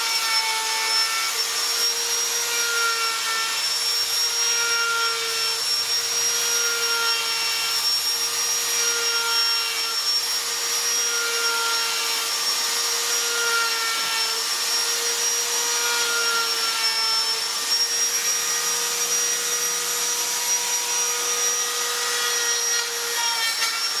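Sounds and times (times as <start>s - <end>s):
rotary carving tool whining: 0.0s - 24.0s.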